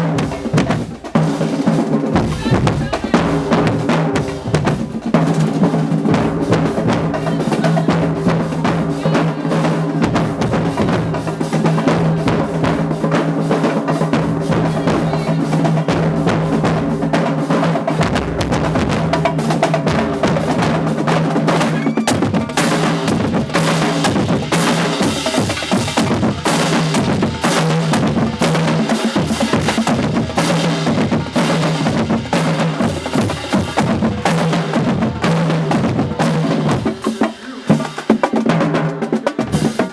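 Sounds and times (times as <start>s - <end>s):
snare and bass drum cadence: 0.0s - 39.9s.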